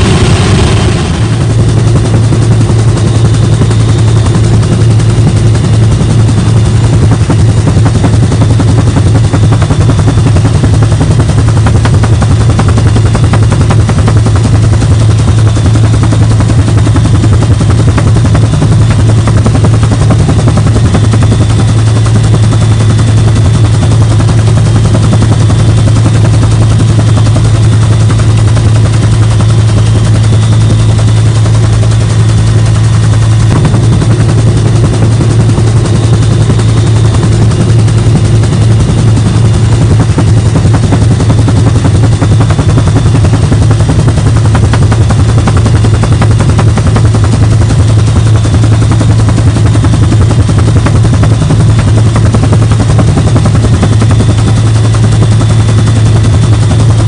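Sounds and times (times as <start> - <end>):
helicopter blades thudding: 0.0 - 57.0
helicopter engine drone: 0.0 - 57.0.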